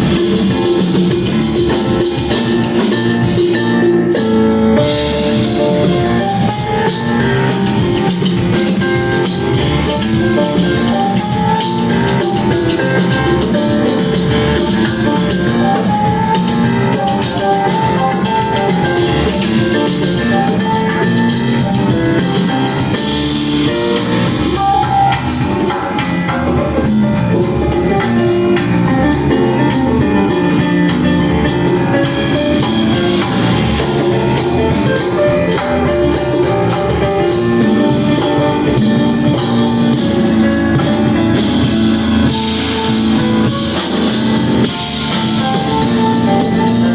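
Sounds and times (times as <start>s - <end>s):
live band music: 0.0s - 46.9s.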